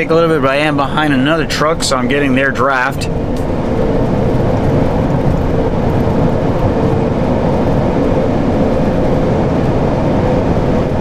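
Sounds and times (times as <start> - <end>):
tire rumble on pavement: 0.0 - 11.0.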